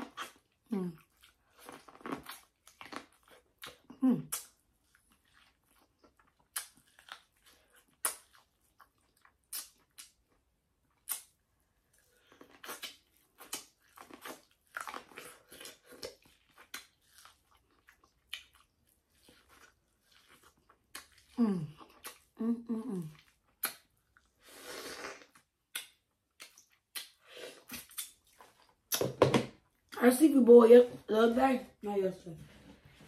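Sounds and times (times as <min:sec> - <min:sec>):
chewing and wet smacking: 0:00.0 - 0:22.4, 0:23.0 - 0:24.4, 0:25.2 - 0:30.2.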